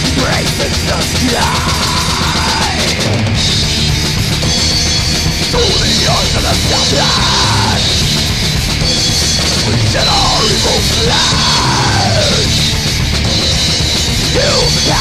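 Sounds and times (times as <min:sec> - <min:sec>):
bass guitar: 0:00.0 - 0:15.0
distorted guitars: 0:00.0 - 0:15.0
drums: 0:00.0 - 0:15.0.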